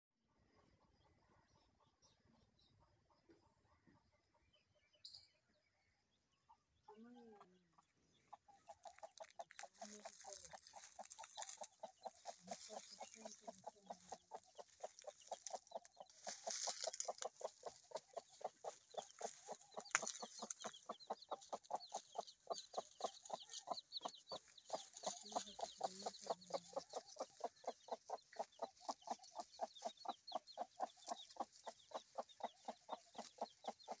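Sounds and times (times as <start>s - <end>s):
chicks peeping: 6.4s - 34.0s
hen clucking: 6.4s - 34.0s.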